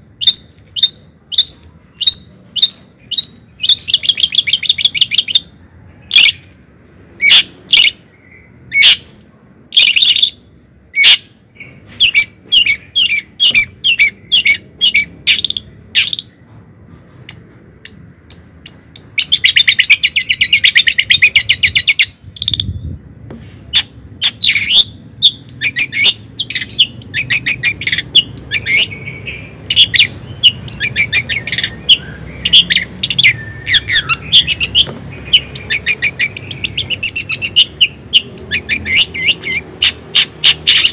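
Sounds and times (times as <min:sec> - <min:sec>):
small bird chirping and warbling: 0:00.1 - 0:06.6, 0:09.7 - 0:16.4, 0:17.3 - 0:23.0, 0:23.7 - 0:40.9.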